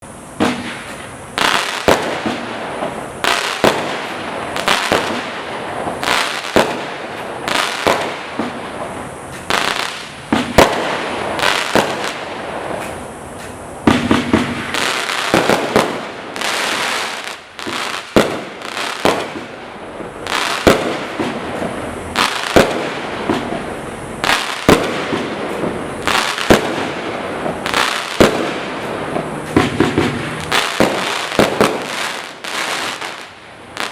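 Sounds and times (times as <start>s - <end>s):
firework bangs: 0.0s - 33.9s
firework crackling hiss: 0.0s - 33.9s.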